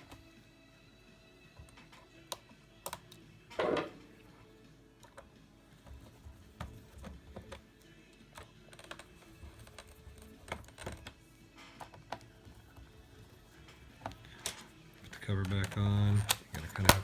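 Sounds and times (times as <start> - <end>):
screwdriver and screws clicking on plastic: 1.6 - 3.7, 5.0 - 17.0.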